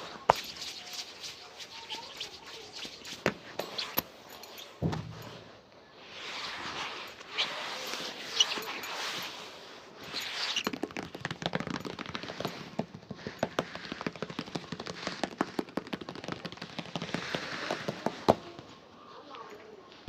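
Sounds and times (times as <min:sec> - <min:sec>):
shoe shining clicking and scratching: 0:00.0 - 0:18.7.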